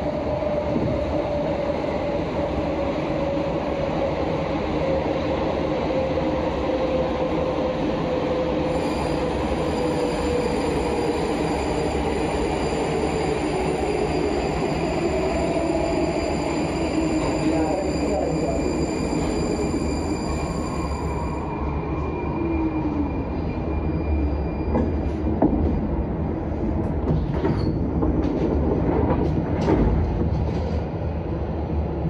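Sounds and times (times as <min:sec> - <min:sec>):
metro train rumbling in tunnel: 0:00.0 - 0:32.0.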